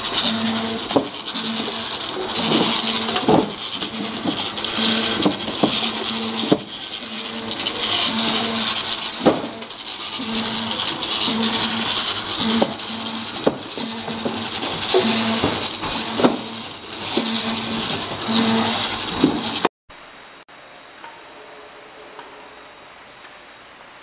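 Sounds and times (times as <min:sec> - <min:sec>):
machine hiss: 0:00.0 - 0:19.7
machine hum: 0:00.0 - 0:24.0.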